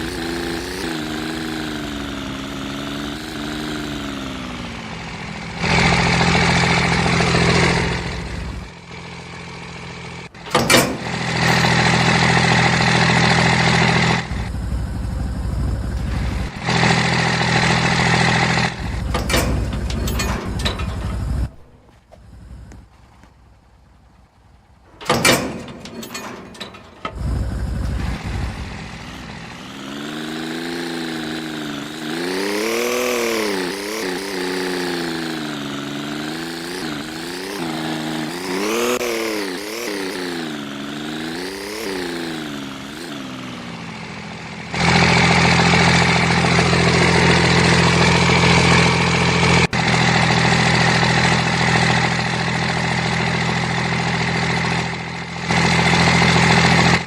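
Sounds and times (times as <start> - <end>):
motor whining: 0.0 - 23.2, 25.5 - 50.0
engine running: 0.0 - 57.0.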